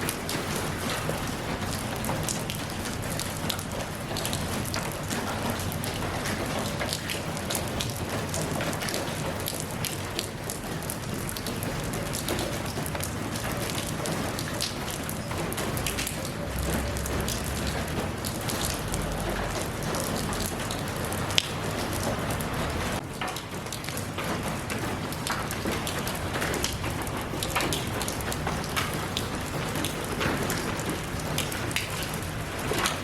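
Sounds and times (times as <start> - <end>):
raindrops ticking on surfaces: 0.0 - 33.0
steady rain falling: 0.0 - 33.0.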